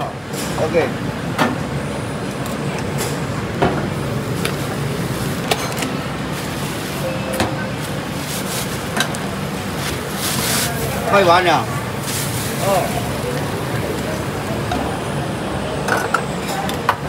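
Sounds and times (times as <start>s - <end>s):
busy food court din: 0.0s - 17.0s.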